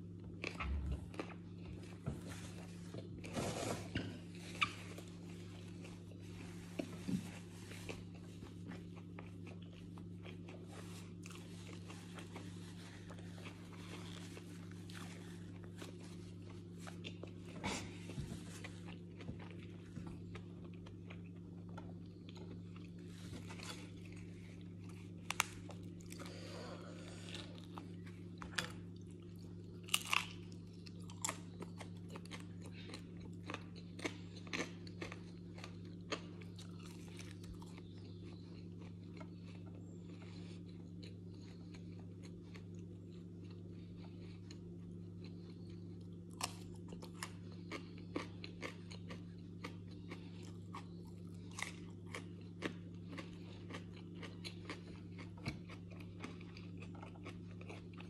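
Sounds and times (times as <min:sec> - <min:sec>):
steady low hum: 0:00.0 - 0:58.0
crunchy biting and chewing: 0:00.3 - 0:58.0.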